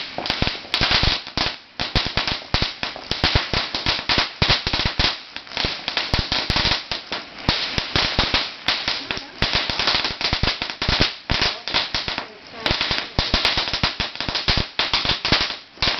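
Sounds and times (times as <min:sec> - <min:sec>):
firecrackers banging: 0:00.0 - 0:15.9.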